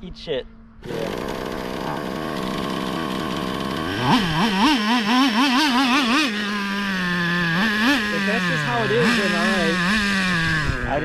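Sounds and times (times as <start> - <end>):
small rc car engine revving: 0.8 - 11.0.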